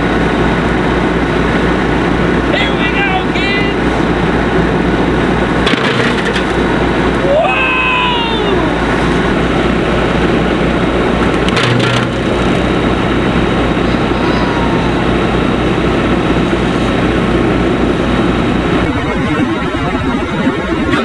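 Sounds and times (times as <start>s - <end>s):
tractor and mower running: 0.0s - 21.0s.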